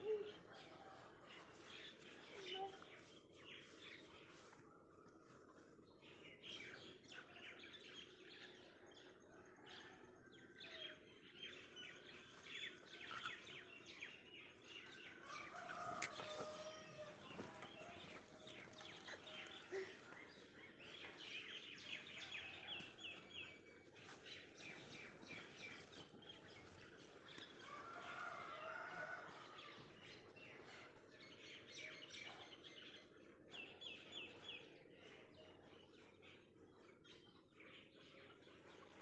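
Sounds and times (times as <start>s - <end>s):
small birds chirping: 0.0s - 9.6s, 10.7s - 39.0s.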